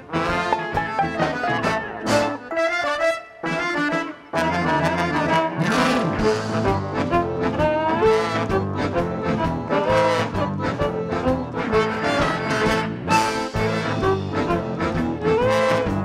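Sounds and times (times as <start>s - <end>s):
live brass band playing: 0.0s - 16.0s.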